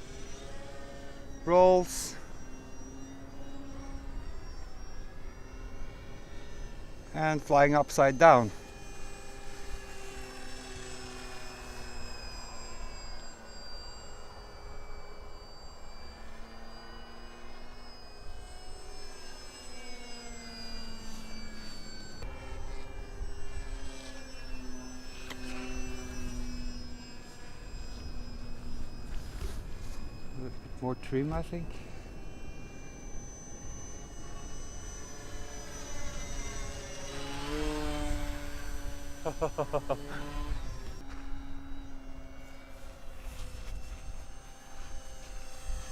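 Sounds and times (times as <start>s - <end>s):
model airplane motor whining: 0.0s - 45.9s.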